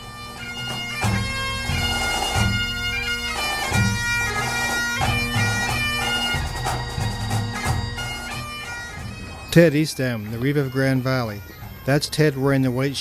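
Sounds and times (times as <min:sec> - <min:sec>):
bagpipe chanter melody: 0:00.0 - 0:13.0
bagpipe drone: 0:00.0 - 0:13.0.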